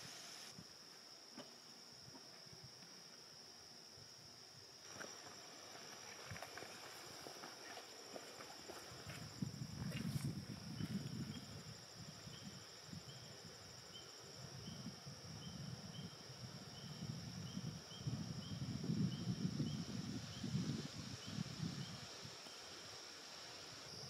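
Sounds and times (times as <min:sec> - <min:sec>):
insects trilling: 0:00.0 - 0:24.0
short insect chirp: 0:00.0 - 0:24.0.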